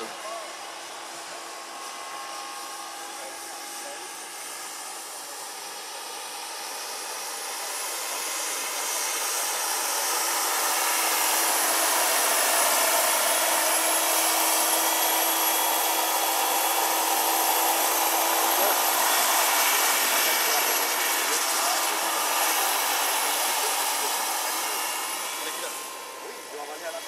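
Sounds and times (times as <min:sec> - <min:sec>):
helicopter rotor noise: 0:00.0 - 0:27.0
turbine whine: 0:00.0 - 0:27.0.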